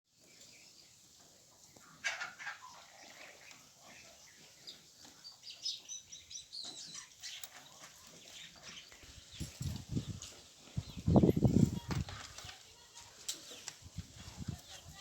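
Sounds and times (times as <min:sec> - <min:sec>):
birds chirping: 0:00.2 - 0:15.0.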